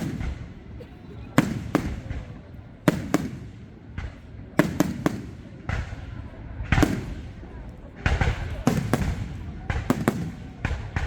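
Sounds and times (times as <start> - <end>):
fireworks bursting with bangs: 0.0 - 11.0.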